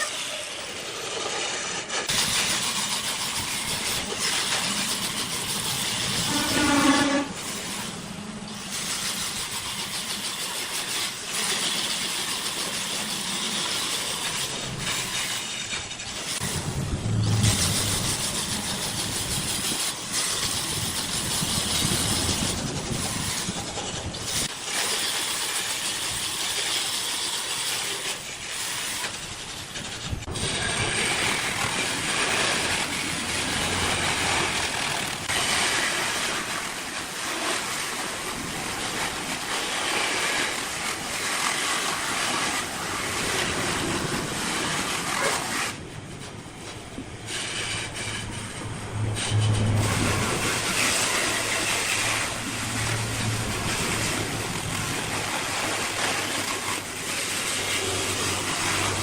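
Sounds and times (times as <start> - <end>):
wood lathe cutting hiss: 0.0 - 59.0.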